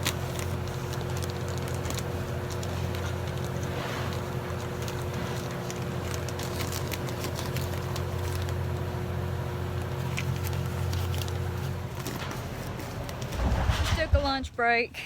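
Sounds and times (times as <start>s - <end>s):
low mechanical hum with tones: 0.0s - 15.0s.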